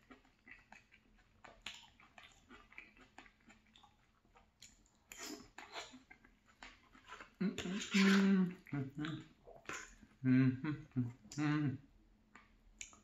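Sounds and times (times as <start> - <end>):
person chewing with mouth smacks: 0.0 - 11.4, 12.3 - 13.0.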